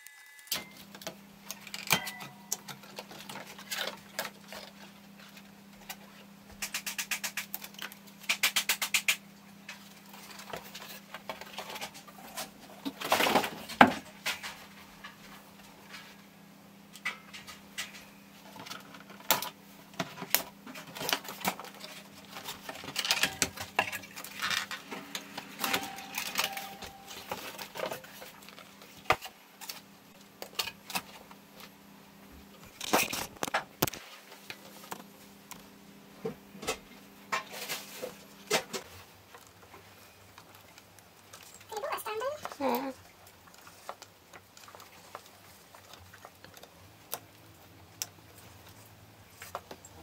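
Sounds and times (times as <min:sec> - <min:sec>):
low steady hum: 0:09.4 - 0:50.0.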